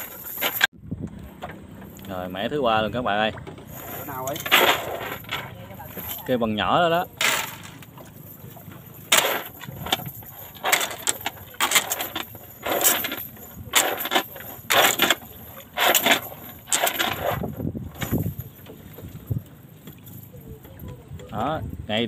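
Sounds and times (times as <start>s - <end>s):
cast net rattling and clinking: 0.0s - 0.7s, 3.3s - 21.0s.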